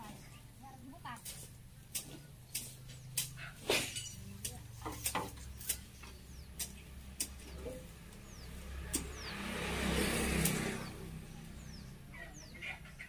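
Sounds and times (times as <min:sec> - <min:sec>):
bird chirping: 0:00.0 - 0:13.0
vehicle passing by: 0:02.1 - 0:13.0.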